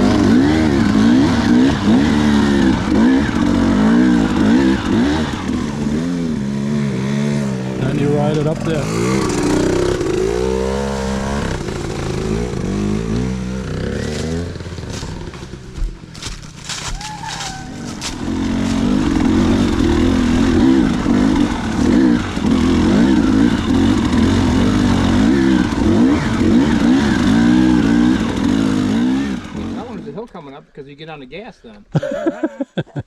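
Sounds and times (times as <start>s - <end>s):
dirt bike engine revving: 0.0s - 30.2s.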